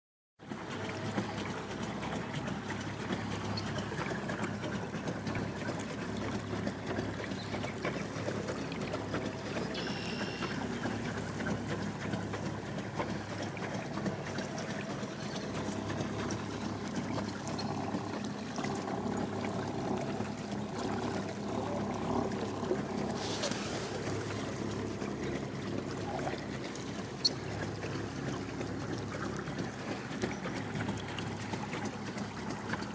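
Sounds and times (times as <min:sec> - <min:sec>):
water churning and trickling: 0:00.4 - 0:32.9.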